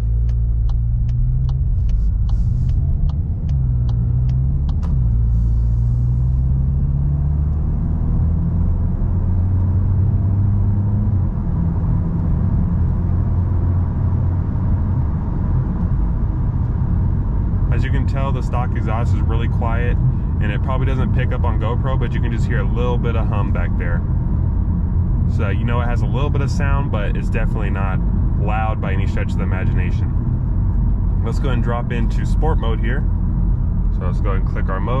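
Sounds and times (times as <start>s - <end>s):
car engine accelerating: 0.0s - 35.0s
tyre and road noise: 0.0s - 35.0s.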